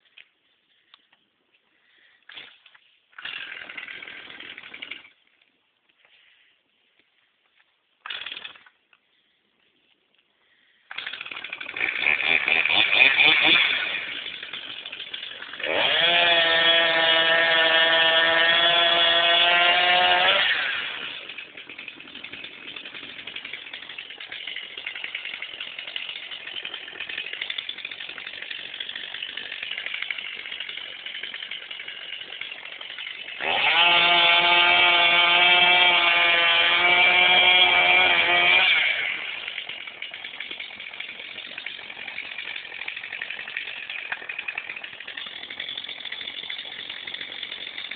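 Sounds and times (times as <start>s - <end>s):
chainsaw engine revving: 2.3s - 5.2s, 8.0s - 8.8s, 10.9s - 47.9s.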